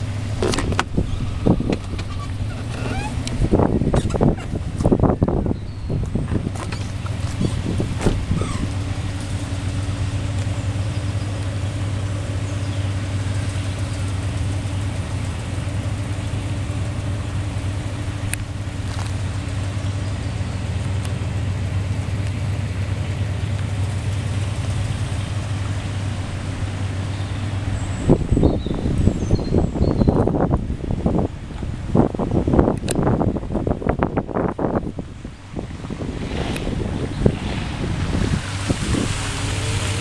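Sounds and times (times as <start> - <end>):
truck engine low hum: 0.0 - 40.0.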